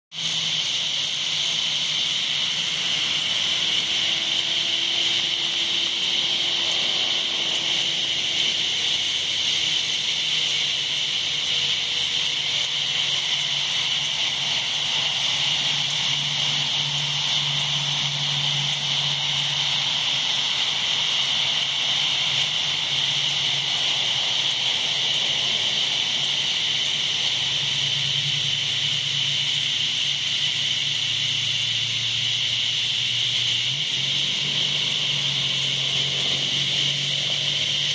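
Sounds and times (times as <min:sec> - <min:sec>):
cicadas buzzing: 0:00.1 - 0:37.9.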